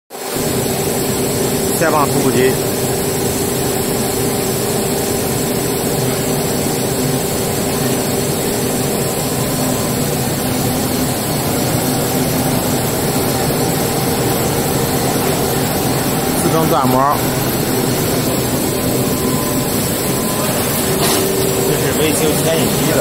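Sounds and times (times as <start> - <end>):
machine humming with steady tones: 0.1 - 23.0.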